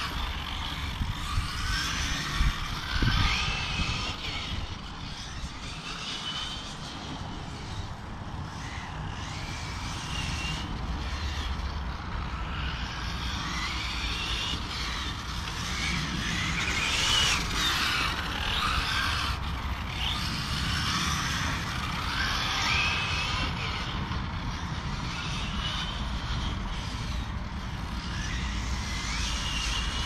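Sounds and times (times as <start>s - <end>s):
electric motor whine: 0.0s - 30.0s.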